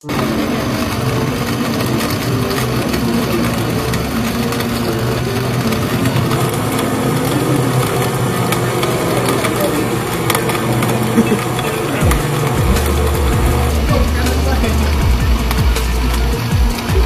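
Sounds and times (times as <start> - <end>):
electric blender running: 0.0 - 17.0.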